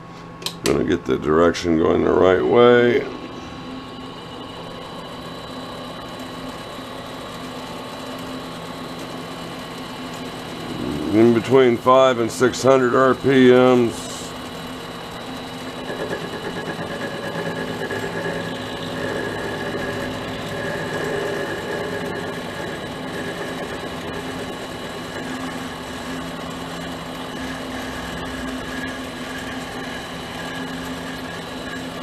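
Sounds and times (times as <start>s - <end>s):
lathe motor hum and whine: 0.0s - 32.0s.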